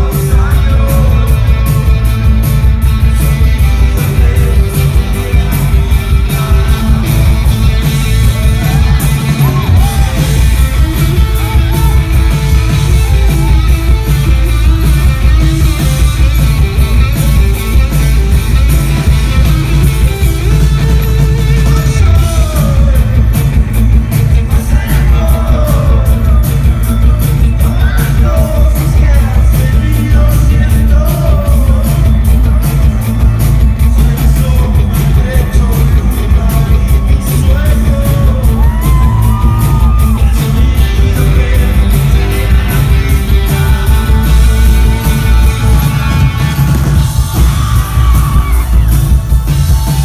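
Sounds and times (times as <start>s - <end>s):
person singing: 0.0s - 2.2s, 2.8s - 50.0s
live rock band playing: 0.0s - 50.0s.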